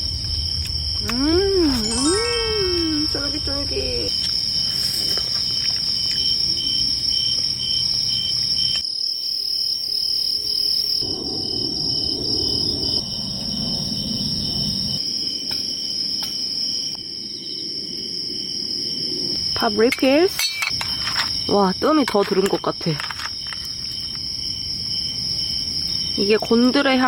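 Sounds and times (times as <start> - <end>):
crickets trilling: 0.0 - 27.0
insect chirping: 0.0 - 27.0.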